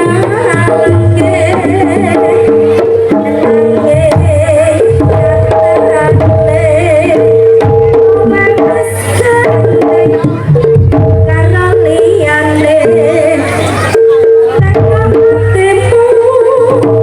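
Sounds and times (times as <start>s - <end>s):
hand drums beating: 0.0s - 17.0s.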